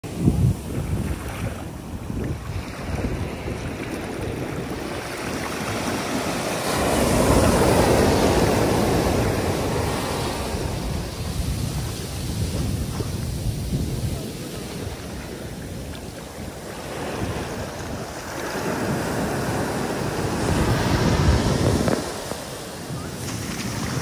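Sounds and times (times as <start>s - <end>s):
surf washing over sand: 0.0s - 24.0s
wind rumble on microphone: 0.0s - 24.0s.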